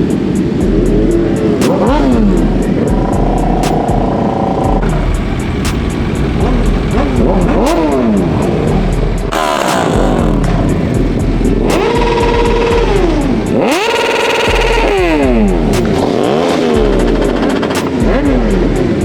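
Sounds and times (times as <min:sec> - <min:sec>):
motorcycles revving and accelerating: 0:00.0 - 0:19.0.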